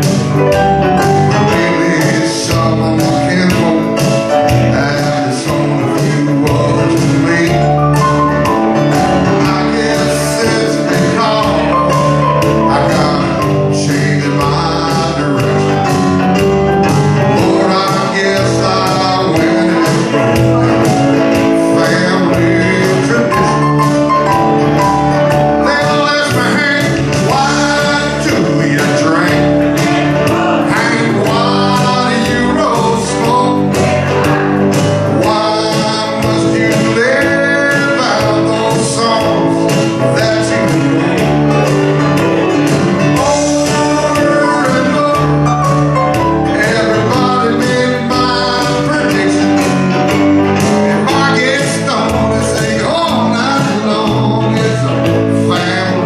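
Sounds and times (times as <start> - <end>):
electric guitar: 0.0 - 56.0
keyboard: 0.0 - 56.0
man singing: 0.0 - 56.0
steady drum beat: 0.0 - 56.0.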